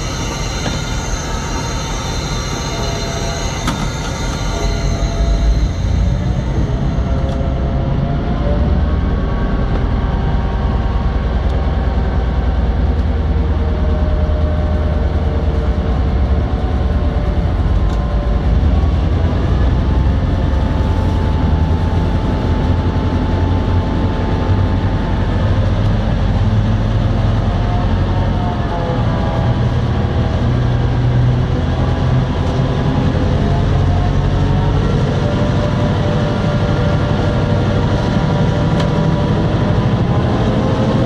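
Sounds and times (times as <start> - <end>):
locomotive diesel engine droning: 0.0 - 41.0.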